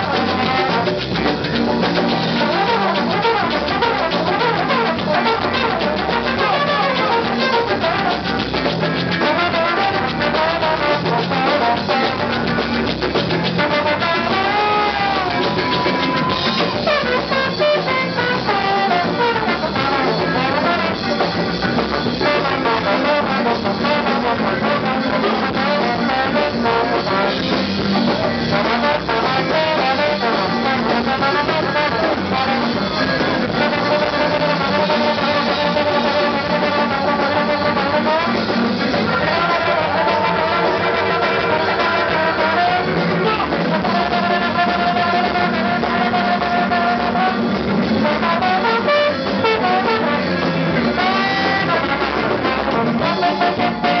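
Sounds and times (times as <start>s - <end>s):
live band playing: 0.0s - 54.0s
trombone sliding lines: 0.0s - 54.0s.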